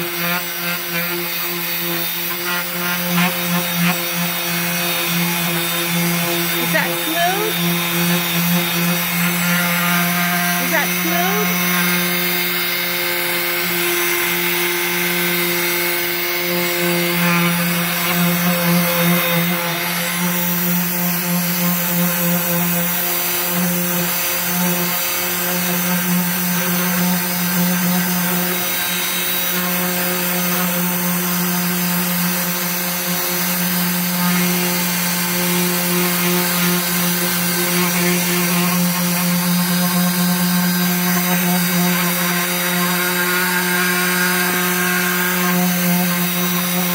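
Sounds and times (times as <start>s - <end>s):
orbital sander sanding wood: 0.0s - 46.9s.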